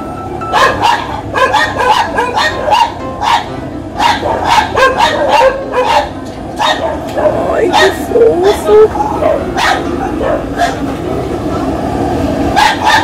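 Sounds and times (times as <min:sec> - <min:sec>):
dog yipping and barking: 0:00.5 - 0:10.9, 0:12.5 - 0:13.0.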